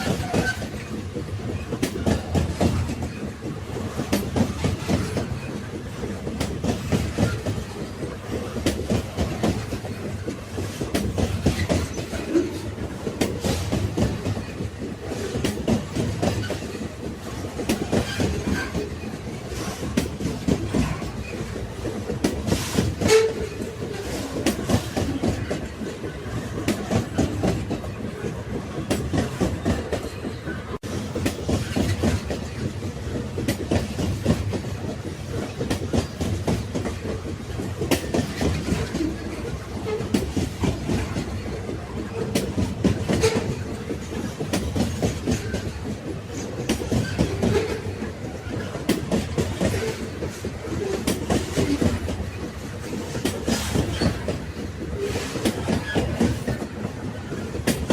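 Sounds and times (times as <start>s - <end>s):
clickety-clack over rail joints: 0.0s - 57.9s
railway wagons rumbling on track: 0.0s - 57.9s.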